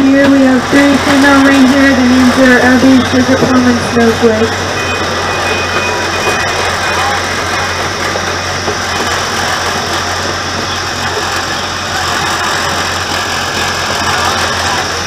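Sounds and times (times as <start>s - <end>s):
rushing noise of moving train: 0.0s - 15.0s
train engine humming: 0.0s - 15.0s.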